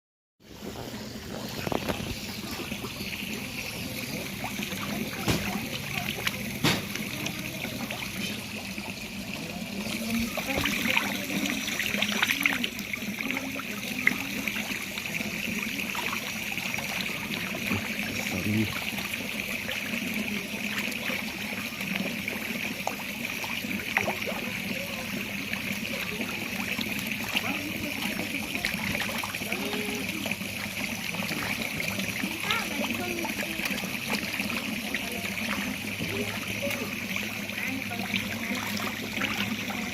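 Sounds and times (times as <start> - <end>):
water splashes: 0.4 - 39.9
water trickling into pond: 0.4 - 39.9.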